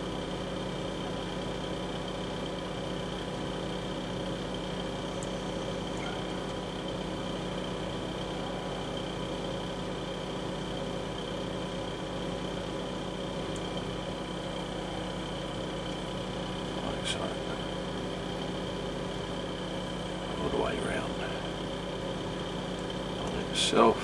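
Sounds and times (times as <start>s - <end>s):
machine hum and whir: 0.0s - 24.0s.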